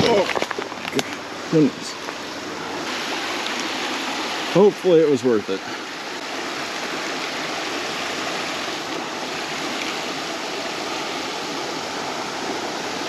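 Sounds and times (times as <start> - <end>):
running creek water: 0.0 - 13.0.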